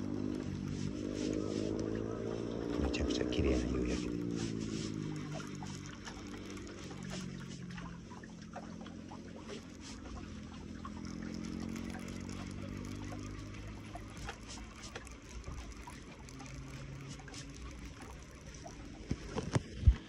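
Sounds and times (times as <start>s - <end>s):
fishing reel whirring and clicking: 0.0s - 20.0s
small waves lapping on rocks: 0.0s - 20.0s.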